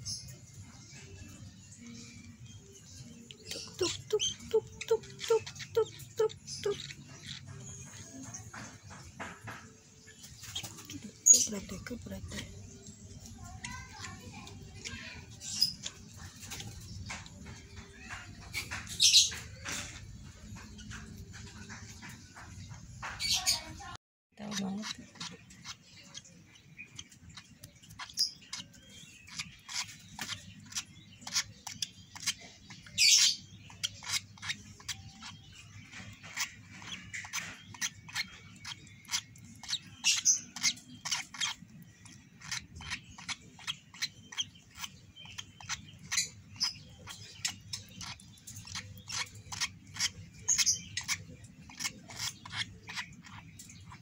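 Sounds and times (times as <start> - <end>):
bird chick begging chirps: 1.0 - 54.0.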